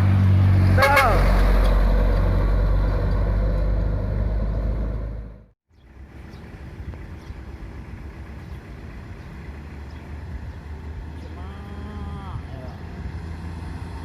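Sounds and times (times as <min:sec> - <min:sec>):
heavy vehicle engine running: 0:00.0 - 0:14.0
road traffic noise: 0:00.0 - 0:14.0.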